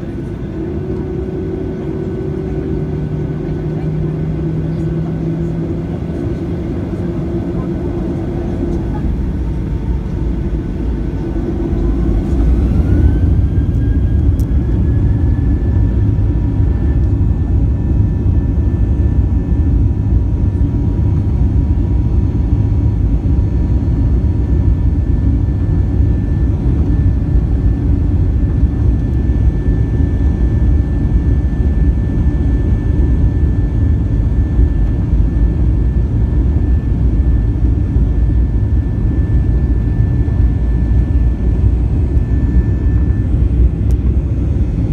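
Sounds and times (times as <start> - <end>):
jet engine whine: 0.0 - 44.9.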